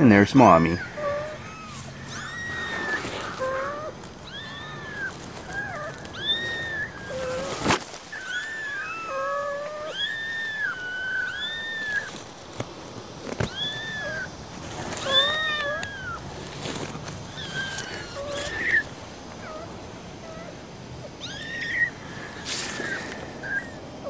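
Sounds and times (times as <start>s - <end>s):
kittens mewing: 0.4s - 12.2s, 13.4s - 16.3s, 17.3s - 24.0s.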